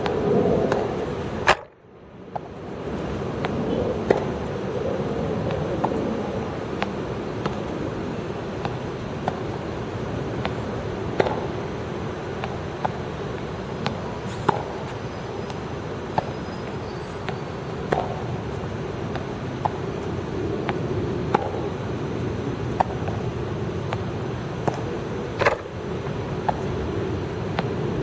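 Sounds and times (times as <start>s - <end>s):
tennis balls bouncing on court: 0.0s - 1.6s, 2.3s - 2.6s, 3.2s - 4.6s, 5.4s - 28.0s
tennis balls struck with rackets: 0.0s - 1.7s, 3.4s - 4.4s, 5.4s - 6.0s, 6.6s - 7.8s, 8.4s - 28.0s
steady background hum: 0.0s - 28.0s.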